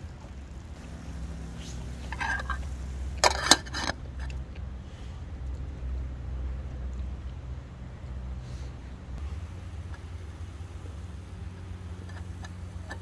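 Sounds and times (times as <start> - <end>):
gas stove burner rumble: 0.0 - 13.0.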